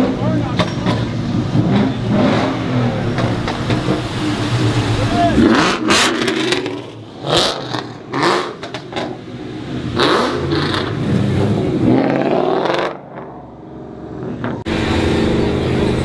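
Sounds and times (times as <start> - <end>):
car engines revving and accelerating: 0.0 - 16.0.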